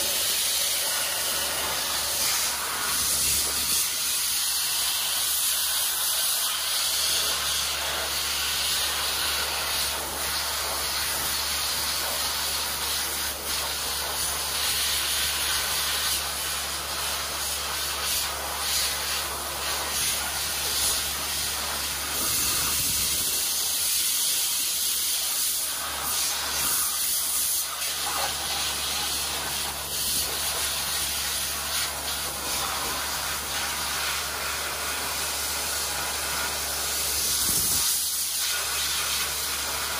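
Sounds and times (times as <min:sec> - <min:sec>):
blasting nozzle hissing: 0:00.0 - 0:39.9.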